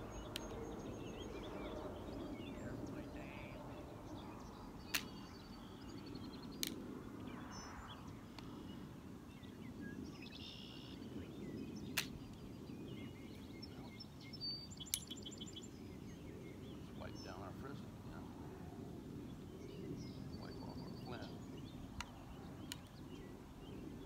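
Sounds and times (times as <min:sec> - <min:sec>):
light birdsong: 0:00.0 - 0:24.0.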